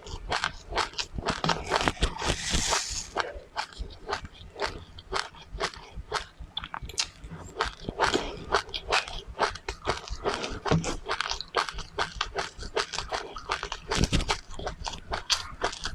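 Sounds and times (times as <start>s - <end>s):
mouth chewing crunchy seeds: 0.0s - 15.9s.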